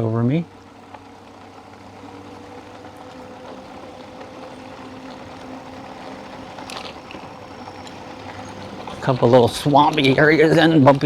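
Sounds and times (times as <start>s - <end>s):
electric motor hum: 0.0s - 11.0s
tyre and road noise: 0.0s - 11.0s.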